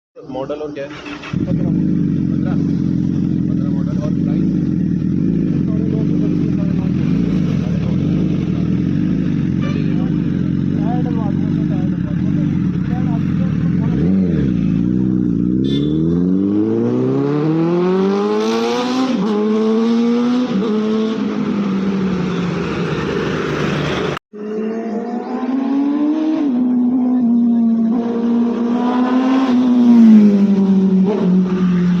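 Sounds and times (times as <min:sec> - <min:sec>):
superbike engine accelerating: 0:01.0 - 0:32.0.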